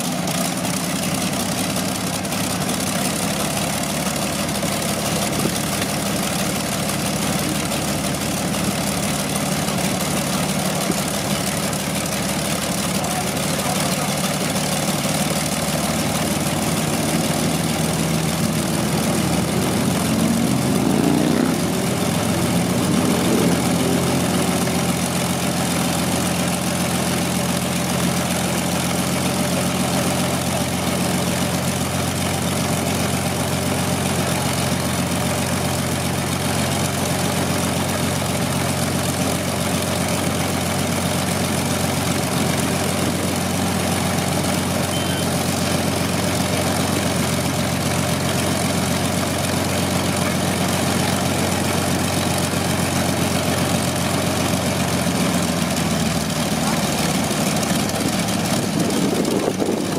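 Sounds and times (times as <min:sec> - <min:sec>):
aircraft engines idling: 0:00.0 - 0:59.9.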